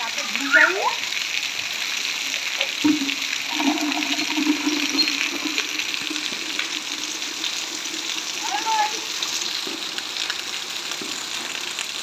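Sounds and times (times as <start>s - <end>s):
heavy rain on concrete: 0.0s - 12.0s
water splashing: 1.7s - 12.0s.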